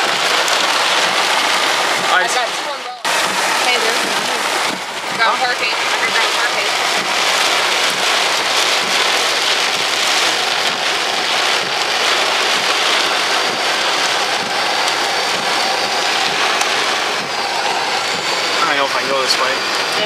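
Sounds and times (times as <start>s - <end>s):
heavy rain on a car: 0.0s - 20.0s.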